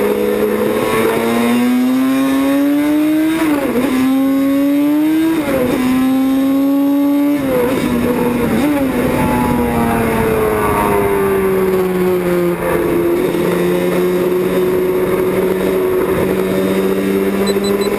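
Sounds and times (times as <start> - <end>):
racing motorcycle engines revving: 0.0 - 17.9.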